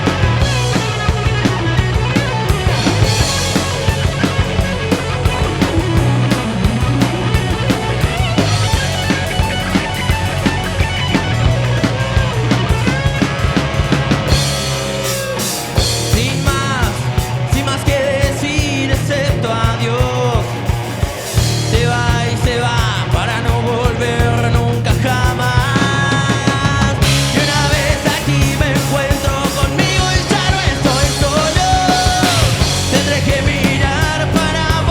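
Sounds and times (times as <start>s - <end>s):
rock band playing live: 0.0s - 34.9s.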